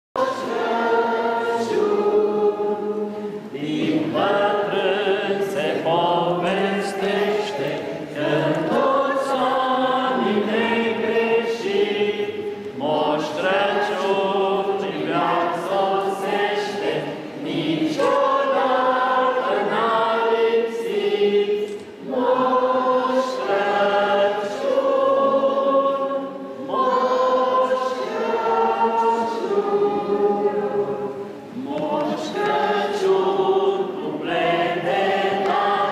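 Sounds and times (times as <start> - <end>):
children's choir singing carol: 0.2 - 35.9.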